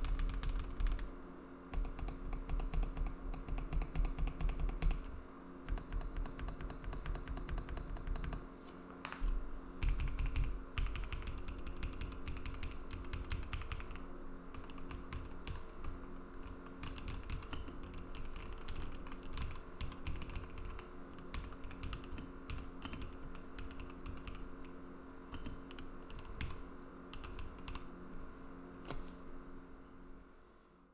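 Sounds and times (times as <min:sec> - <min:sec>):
mechanical keyboard typing: 0:00.0 - 0:01.1, 0:01.7 - 0:05.1, 0:05.7 - 0:08.4, 0:09.2 - 0:27.9.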